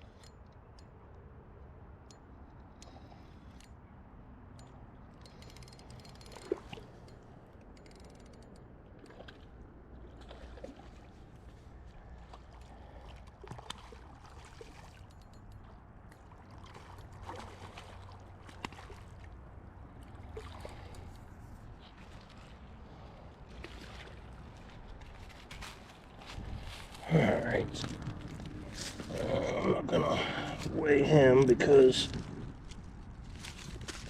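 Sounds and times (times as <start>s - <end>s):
low rumble of water or wind: 0.0s - 34.0s.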